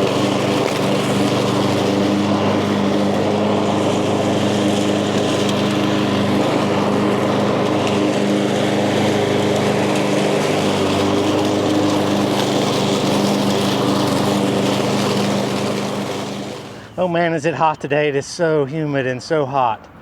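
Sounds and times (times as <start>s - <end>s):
lawn mower engine cutting grass: 0.0s - 20.0s.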